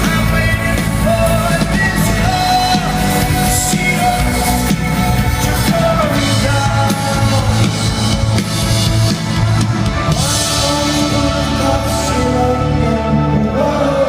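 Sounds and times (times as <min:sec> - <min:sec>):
person singing: 0:00.0 - 0:08.6, 0:09.8 - 0:14.0
live rock band playing: 0:00.0 - 0:14.0.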